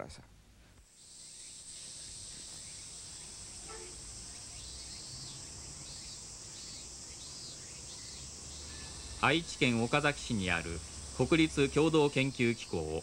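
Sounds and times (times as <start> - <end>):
insects chirring: 0.8 - 13.0.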